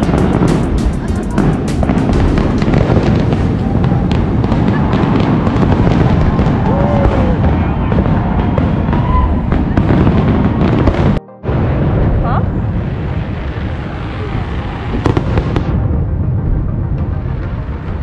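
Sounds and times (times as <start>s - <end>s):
fireworks sharp cracks: 0.0s - 12.1s, 12.8s - 15.9s
fireworks rumble of bursts: 0.0s - 18.0s.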